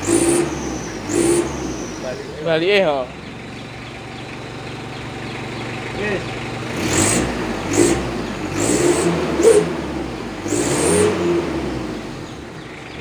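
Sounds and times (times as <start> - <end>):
pickup engine revving: 0.0 - 13.0.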